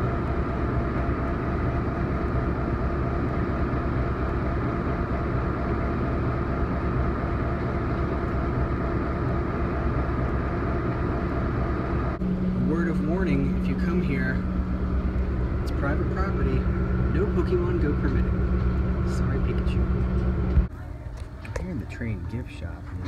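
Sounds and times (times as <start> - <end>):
diesel locomotive engine idling: 0.0 - 23.0.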